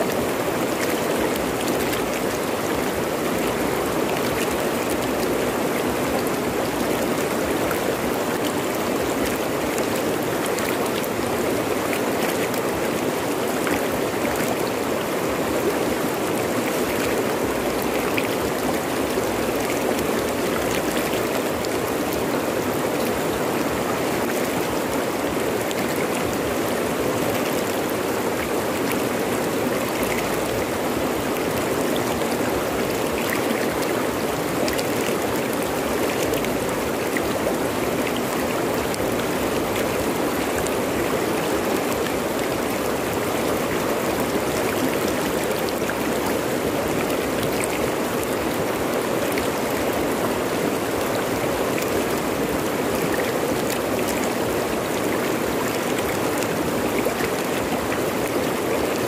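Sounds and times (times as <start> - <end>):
river rushing over rocks: 0.0 - 59.0.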